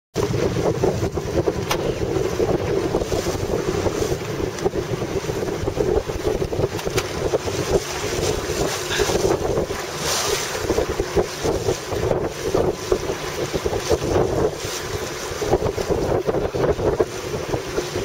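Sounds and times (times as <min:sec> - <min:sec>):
choppy river water lapping: 0:00.2 - 0:18.0
wind buffeting microphone: 0:00.2 - 0:18.0.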